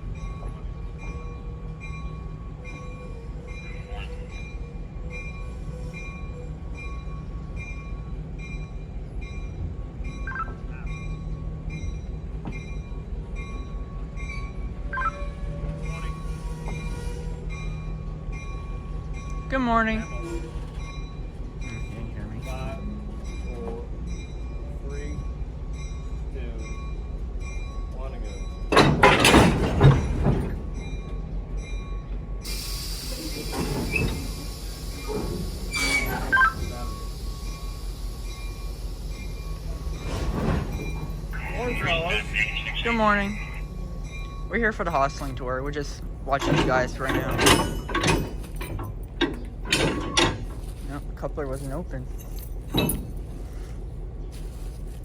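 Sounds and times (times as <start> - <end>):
railroad equipment rumble: 0.0 - 55.0.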